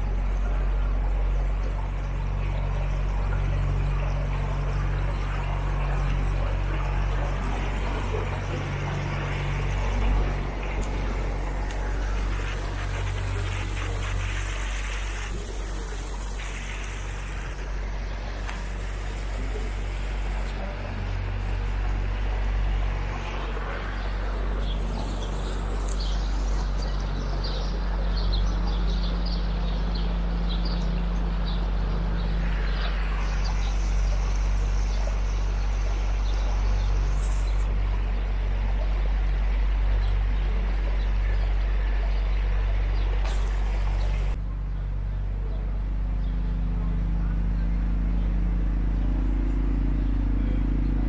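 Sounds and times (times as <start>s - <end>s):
boat motor humming: 0.0s - 51.0s
small birds chirping: 0.0s - 51.0s.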